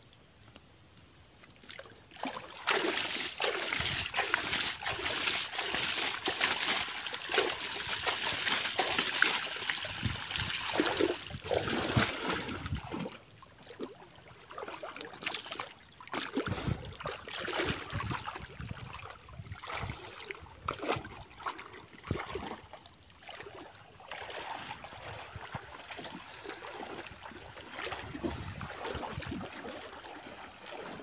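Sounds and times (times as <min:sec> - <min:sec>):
water splashing and sloshing: 0:00.4 - 0:31.0.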